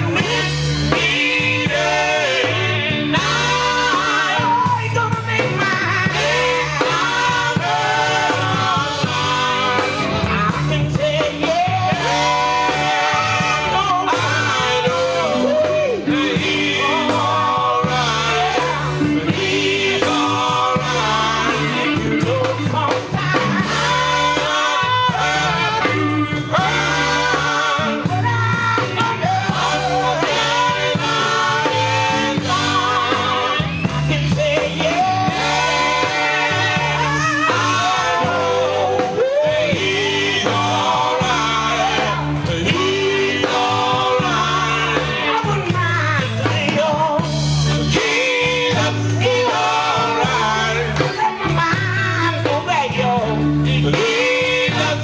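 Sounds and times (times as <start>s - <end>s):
bass guitar: 0.0s - 55.0s
electric guitar: 0.0s - 55.0s
people singing: 0.0s - 55.0s.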